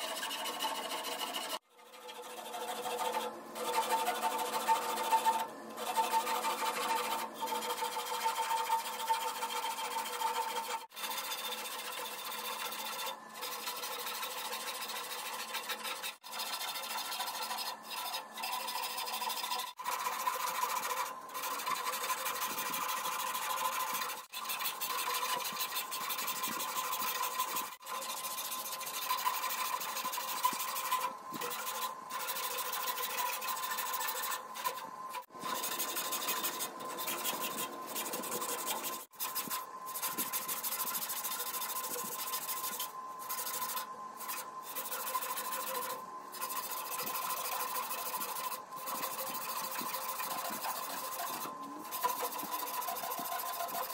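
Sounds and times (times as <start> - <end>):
sandpaper rubbing on wood: 0.0 - 1.6, 2.4 - 53.9.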